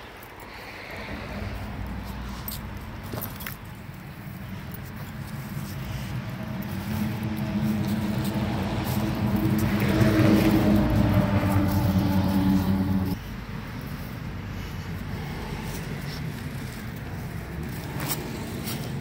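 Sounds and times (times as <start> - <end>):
engine droning: 0.8 - 19.0.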